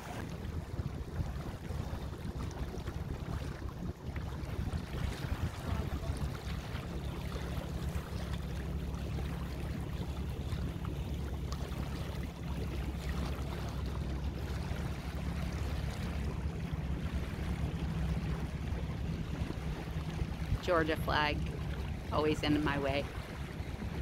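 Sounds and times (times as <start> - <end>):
boat engine droning: 0.0 - 24.0
wind: 0.0 - 24.0.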